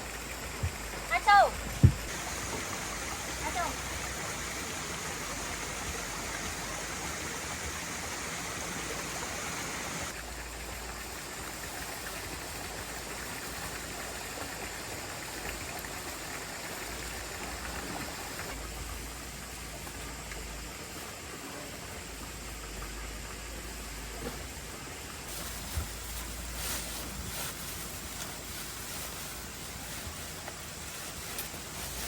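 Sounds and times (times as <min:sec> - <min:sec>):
flowing water rushing: 0:00.0 - 0:32.0.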